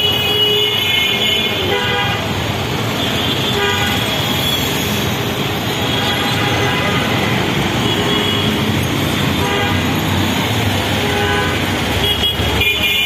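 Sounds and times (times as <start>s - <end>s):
busy street traffic: 0.0s - 13.0s.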